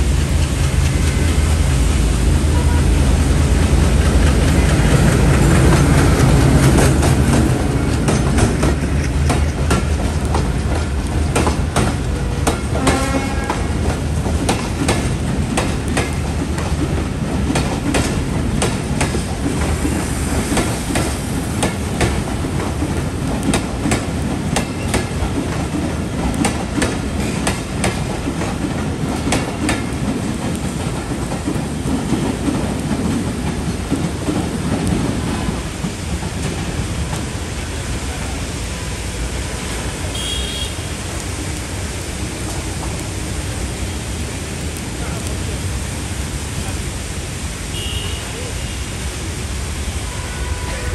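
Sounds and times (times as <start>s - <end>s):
train coaches rumbling past: 0.0s - 50.9s
wheels clicking over rail joints: 2.6s - 47.5s.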